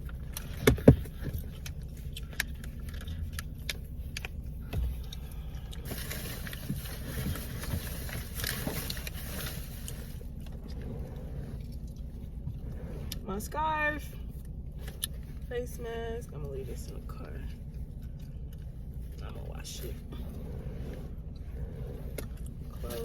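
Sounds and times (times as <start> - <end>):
belongings handled in a car: 0.0 - 23.0
low steady rumble: 0.0 - 23.0.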